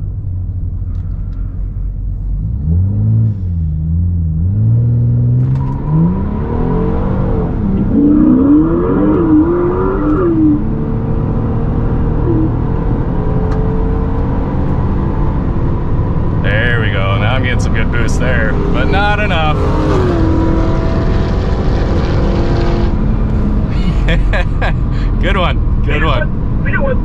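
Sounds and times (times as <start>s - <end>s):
car engine accelerating through shifts: 0.1s - 27.0s.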